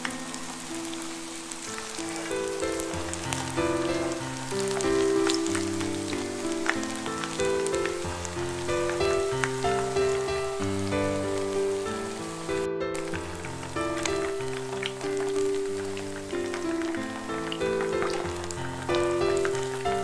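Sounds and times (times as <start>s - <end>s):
background music: 0.0s - 20.0s
hot oil sizzling: 0.0s - 20.0s.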